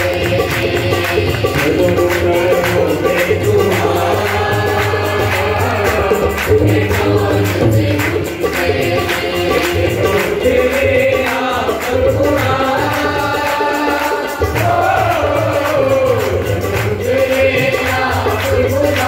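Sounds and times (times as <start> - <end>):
hand clapping: 0.0 - 19.0
harmonium: 0.0 - 19.0
man singing: 0.0 - 19.0
tabla strokes: 0.0 - 19.0.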